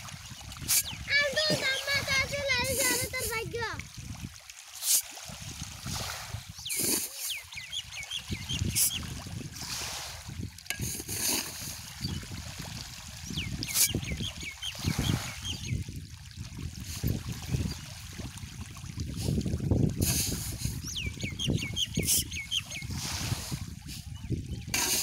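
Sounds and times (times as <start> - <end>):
fish thrashing and splashing in water: 0.0 - 20.8.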